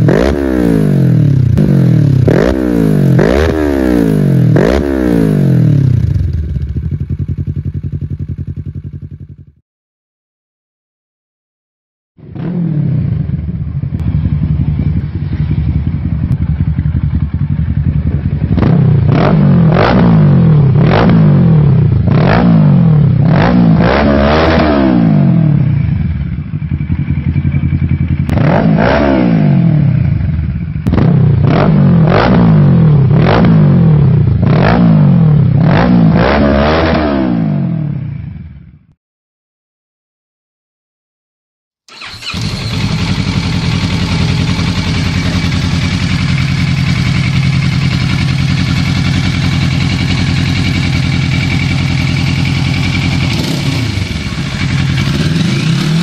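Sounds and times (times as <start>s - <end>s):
motorcycle engine revving: 0.0s - 9.5s, 12.2s - 38.7s, 41.9s - 56.0s.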